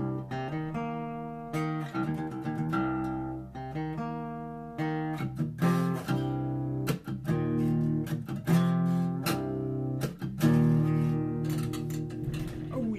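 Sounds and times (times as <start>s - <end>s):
acoustic guitar strumming chords: 0.0s - 12.9s.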